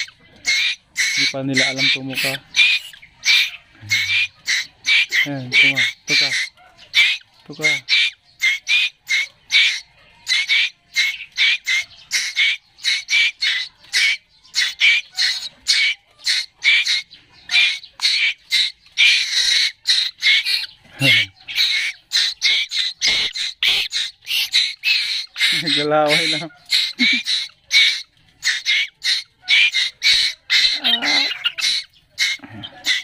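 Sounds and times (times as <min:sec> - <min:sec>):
fledgling birds squawking: 0:00.0 - 0:33.0.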